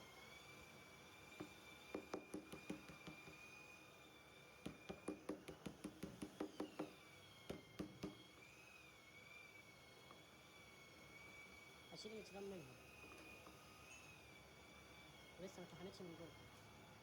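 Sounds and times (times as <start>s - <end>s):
faint high whine: 0.0s - 5.0s, 6.4s - 17.0s.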